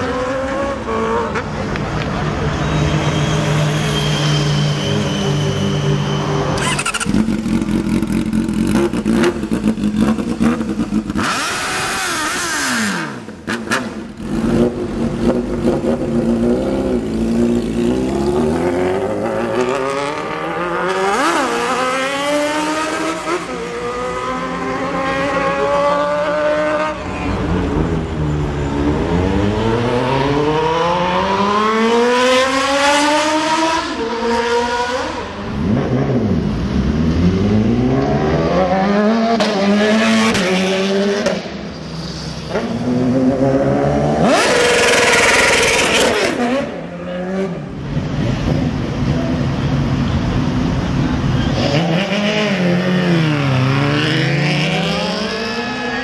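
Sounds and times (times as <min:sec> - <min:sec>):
motorcycle engines accelerating: 0:00.0 - 0:02.6, 0:06.4 - 0:41.6, 0:42.4 - 0:56.0.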